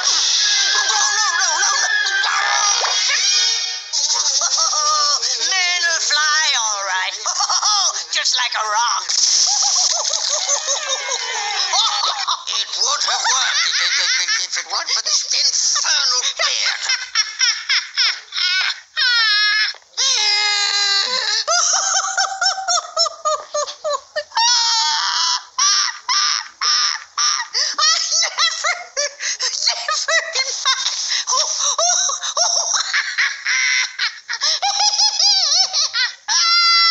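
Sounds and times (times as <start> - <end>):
cartoon voice laughing hysterically: 0.0 - 36.9.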